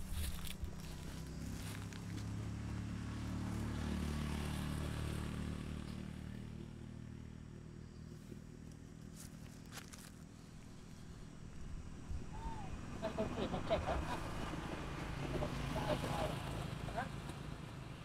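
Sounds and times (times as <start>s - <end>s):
vehicle engine passing: 0.0s - 9.7s, 10.3s - 18.0s.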